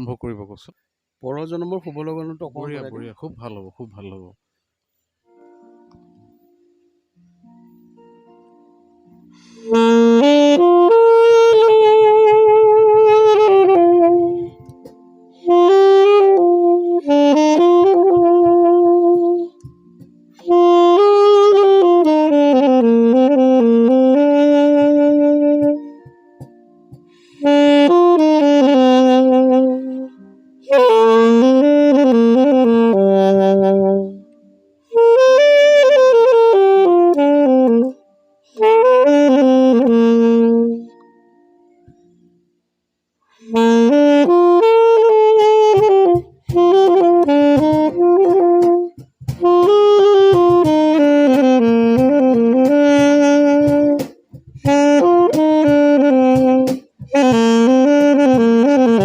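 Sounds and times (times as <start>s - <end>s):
solo saxophone melody: 5.2s - 59.0s.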